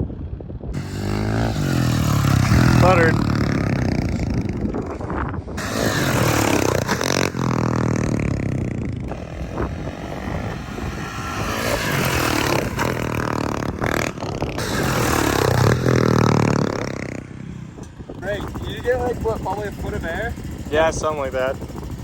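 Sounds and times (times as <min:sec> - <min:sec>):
dirt bike engine revving: 0:00.8 - 0:22.0.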